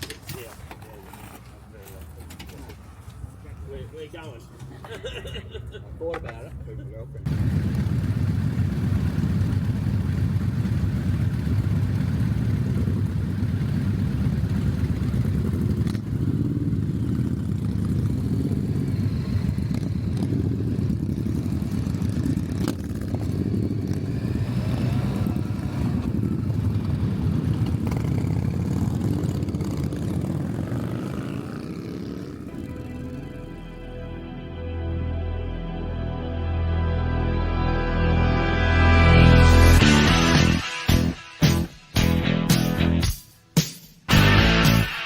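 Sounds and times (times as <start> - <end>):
motorcycle engine rumbling: 0.0 - 34.4, 35.5 - 43.2.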